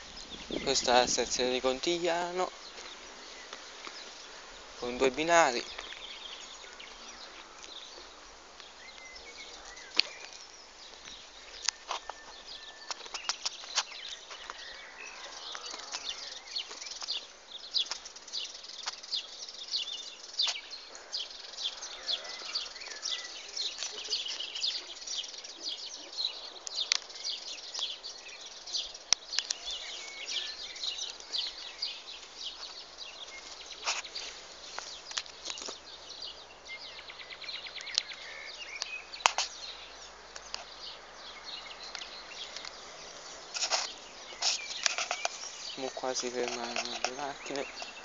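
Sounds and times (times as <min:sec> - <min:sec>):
insects: 0:00.0 - 0:48.0
small birds chirping: 0:00.0 - 0:48.0.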